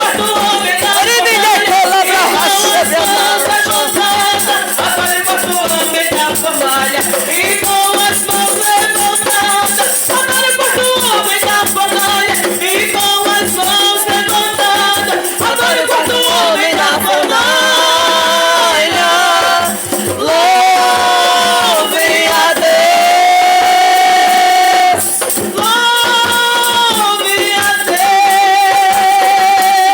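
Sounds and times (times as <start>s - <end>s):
music with singing voices: 0.0s - 29.9s
rattle shaken fast: 0.0s - 29.9s.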